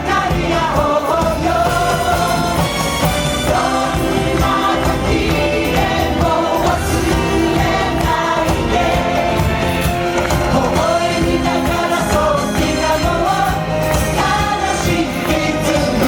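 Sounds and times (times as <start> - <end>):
music with group singing: 0.0 - 16.0.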